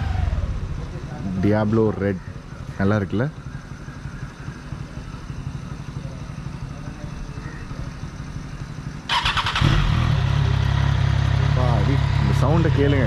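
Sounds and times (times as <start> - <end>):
lower engine idling: 0.0 - 13.0
motorcycle engine starting and running: 0.0 - 13.0.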